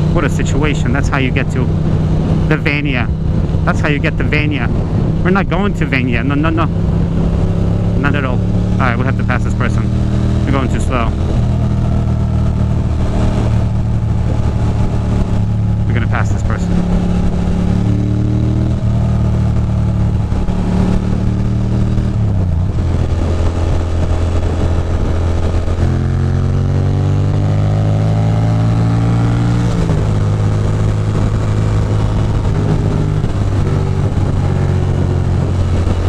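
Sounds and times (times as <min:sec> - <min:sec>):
motorcycle engine accelerating: 0:00.0 - 0:36.0
road and wind noise: 0:00.0 - 0:36.0.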